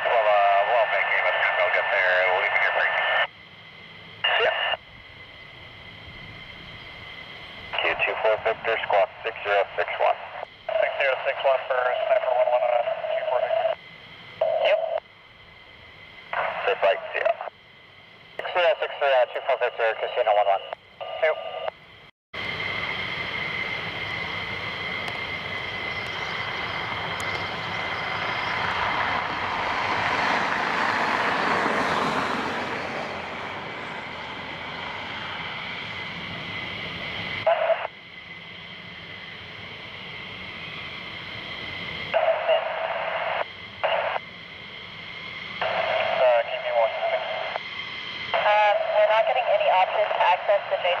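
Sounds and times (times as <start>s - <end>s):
radio scanner hiss and whine: 0.0s - 30.2s, 33.6s - 51.0s
jet engine roar: 0.0s - 51.0s.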